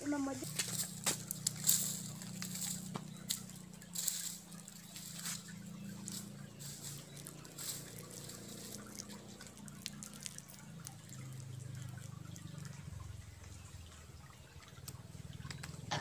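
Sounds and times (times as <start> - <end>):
low steady hum: 0.0 - 16.0
water trickling and dripping: 0.0 - 16.0.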